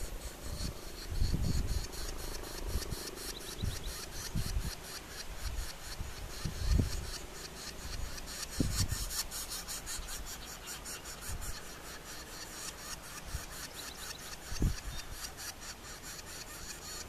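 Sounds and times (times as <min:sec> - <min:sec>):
nestlings begging raspy buzzing: 0:00.0 - 0:17.0.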